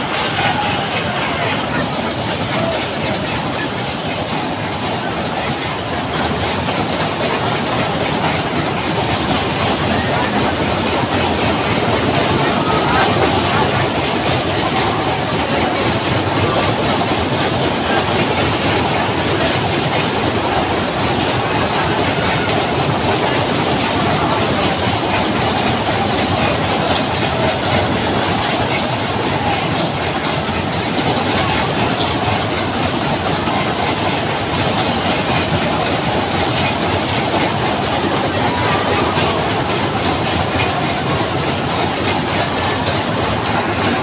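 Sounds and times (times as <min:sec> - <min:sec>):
ride machinery rumbling: 0:00.0 - 0:44.0.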